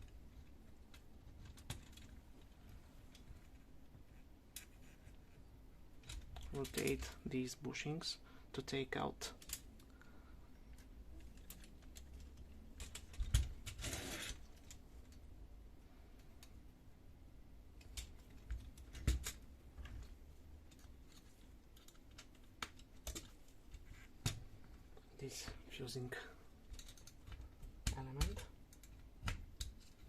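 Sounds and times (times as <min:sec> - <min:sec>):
clicks and knocks of parts handled: 0:00.0 - 0:05.0, 0:05.9 - 0:07.2, 0:09.2 - 0:15.3, 0:16.1 - 0:16.6, 0:17.7 - 0:25.6, 0:26.6 - 0:30.0.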